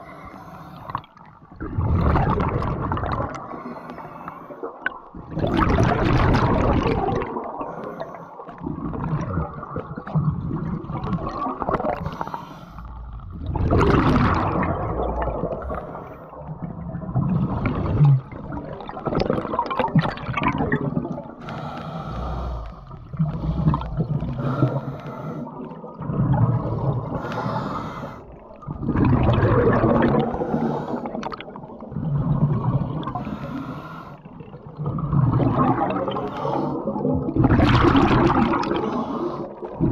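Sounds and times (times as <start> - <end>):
scuba diver breathing underwater: 0.0 - 9.2, 9.8 - 16.5, 20.9 - 39.9
gurgling exhaled bubbles: 0.8 - 39.9.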